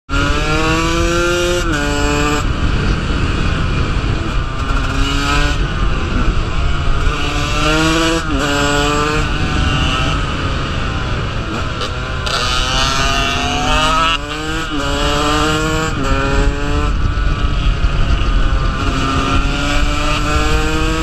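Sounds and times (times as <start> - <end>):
dirt bike engine revving: 0.1 - 21.0
heavy wind noise: 0.1 - 21.0.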